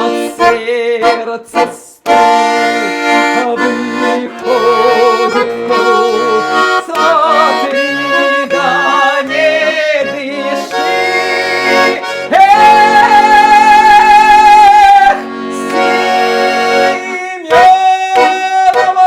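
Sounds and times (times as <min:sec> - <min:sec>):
button accordion playing folk tune: 0:00.0 - 0:19.0.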